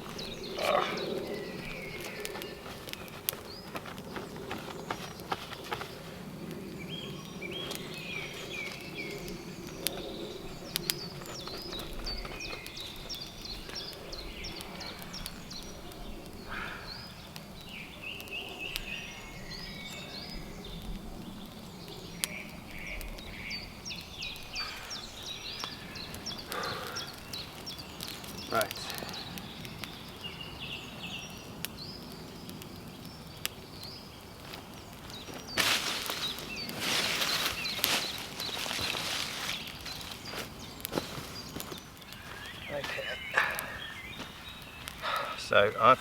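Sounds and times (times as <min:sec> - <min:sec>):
birds chirping and twittering: 0:00.0 - 0:46.0.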